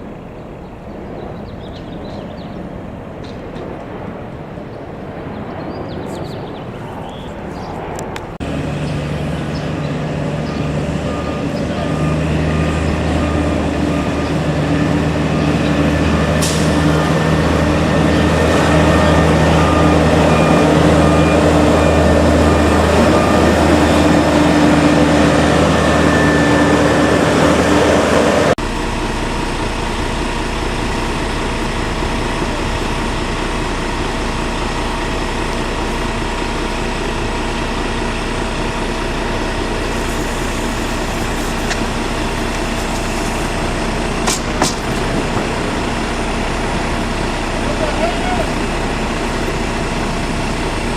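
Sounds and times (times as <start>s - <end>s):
heavy truck engine running: 8.2s - 50.9s
reversing alarm beeping: 8.4s - 50.9s.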